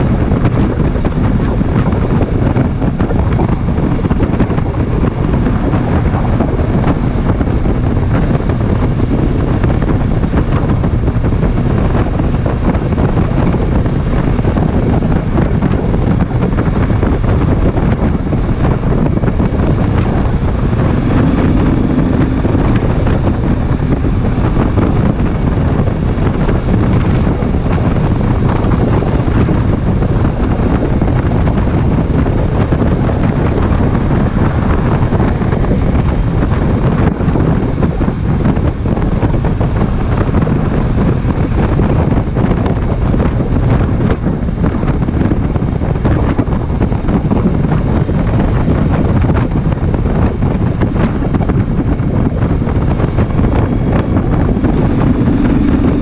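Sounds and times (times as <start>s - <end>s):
motorcycle engine running: 0.0s - 45.2s, 49.4s - 56.0s
wind buffeting microphone: 0.0s - 56.0s.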